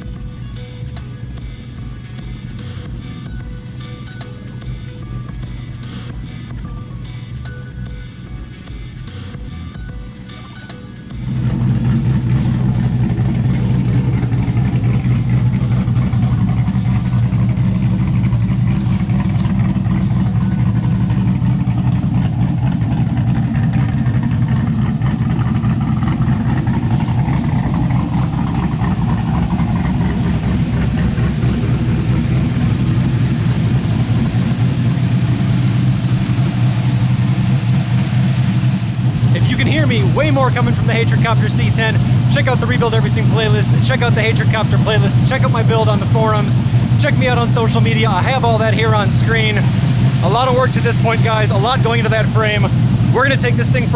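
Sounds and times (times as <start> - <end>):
engine rumbling: 0.0 - 53.9.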